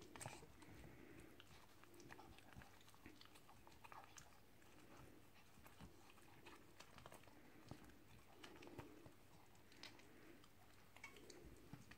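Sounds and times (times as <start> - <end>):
dog licking and chewing: 0.0 - 11.9.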